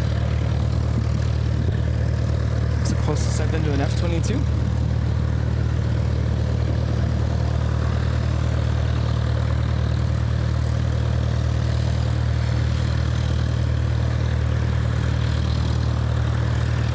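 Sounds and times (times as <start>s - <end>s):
low engine hum: 0.0s - 16.9s.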